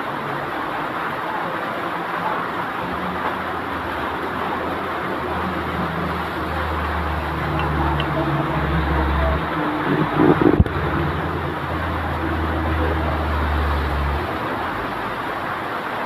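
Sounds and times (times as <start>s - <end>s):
steady rain hiss: 0.0s - 16.0s
truck engine low drone: 0.0s - 16.0s.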